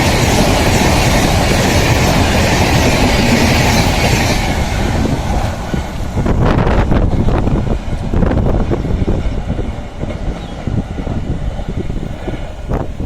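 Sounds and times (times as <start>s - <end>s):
gusty wind buffeting: 0.0s - 13.0s
train coaches rushing past: 0.0s - 13.0s.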